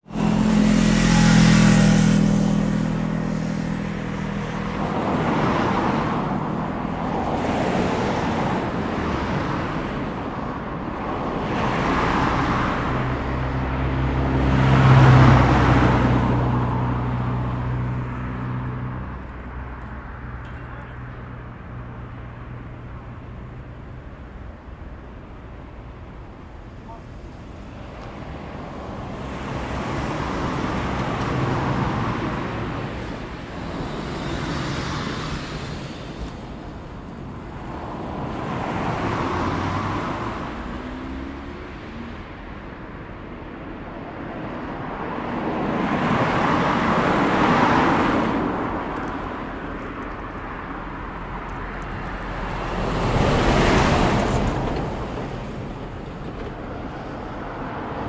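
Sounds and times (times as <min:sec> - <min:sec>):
background traffic rumble: 0:00.0 - 0:58.0
vehicles passing by: 0:00.0 - 0:58.0.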